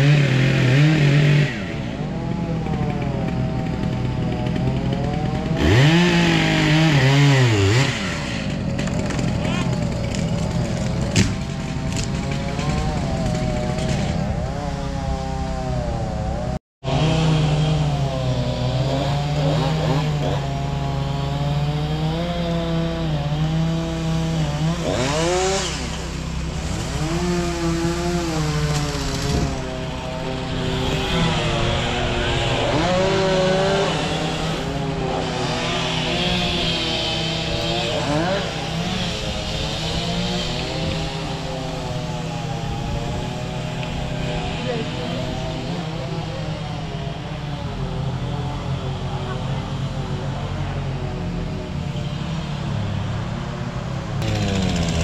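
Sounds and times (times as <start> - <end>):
chainsaw engine running: 0.0 - 55.0.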